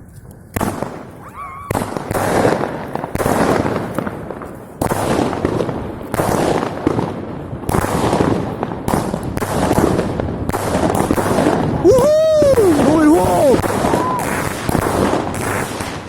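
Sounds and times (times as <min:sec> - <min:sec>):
fireworks bangs: 0:00.6 - 0:16.0.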